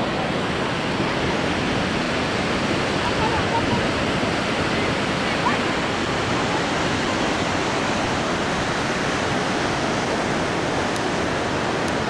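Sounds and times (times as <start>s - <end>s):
rushing water and waterfall: 0.0s - 12.0s.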